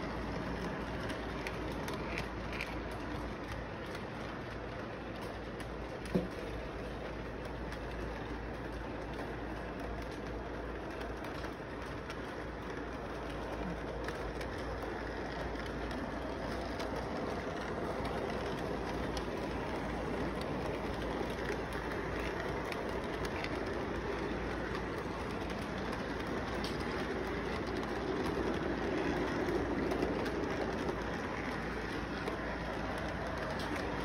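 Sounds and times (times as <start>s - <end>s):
light clicks of wheels: 0.0s - 34.0s
model train rolling rumble: 0.0s - 34.0s.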